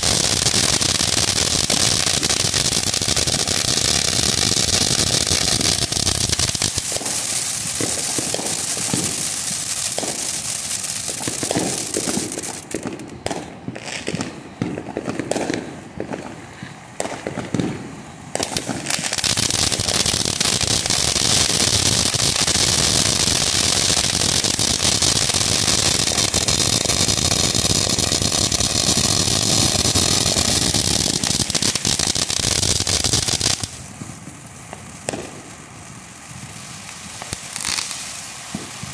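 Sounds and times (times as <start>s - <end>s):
firework fountain hissing: 0.0s - 38.9s.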